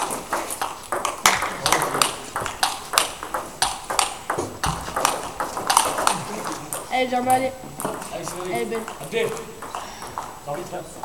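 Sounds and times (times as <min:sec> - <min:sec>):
table tennis balls clicking: 0:00.0 - 0:10.8.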